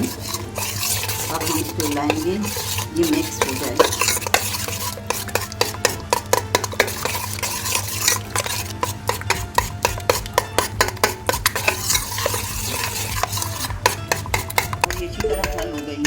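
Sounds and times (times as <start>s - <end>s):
spoon clinking and scraping bowl: 0.0s - 16.0s.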